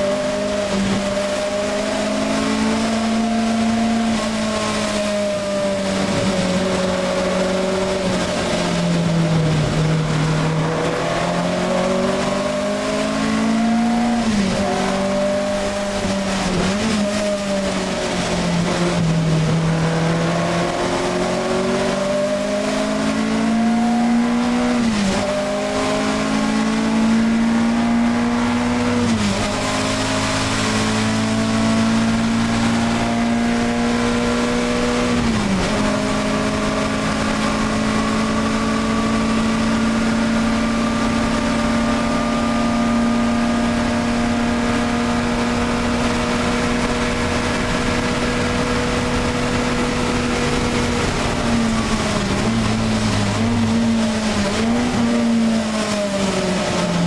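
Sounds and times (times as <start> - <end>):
car engine under load: 0.0 - 57.0.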